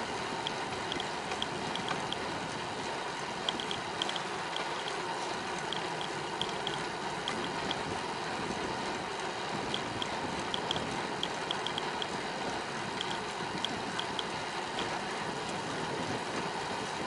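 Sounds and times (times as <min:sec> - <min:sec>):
bicycle rolling noise: 0:00.0 - 0:17.0
bike clicking: 0:00.0 - 0:17.0
wind: 0:00.0 - 0:17.0.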